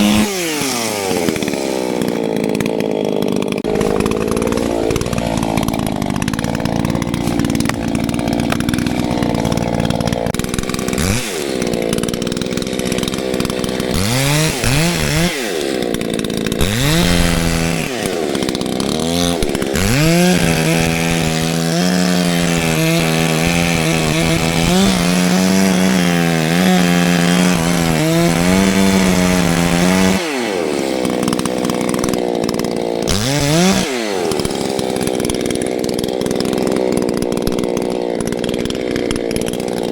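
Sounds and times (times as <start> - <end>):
chainsaw cutting tree trunk: 0.0 - 39.9
chainsaw revving: 0.0 - 39.9.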